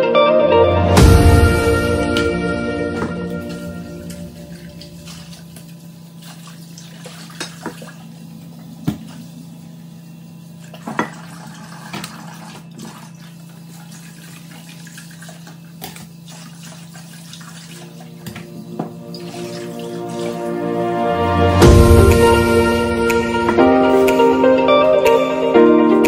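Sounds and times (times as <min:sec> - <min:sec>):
steady low hum: 0:00.6 - 0:10.8, 0:15.0 - 0:26.0.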